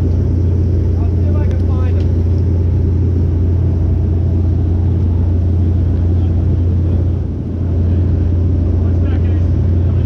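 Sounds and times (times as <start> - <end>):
boat engine droning: 0.0 - 10.0
rushing water noise: 0.0 - 10.0.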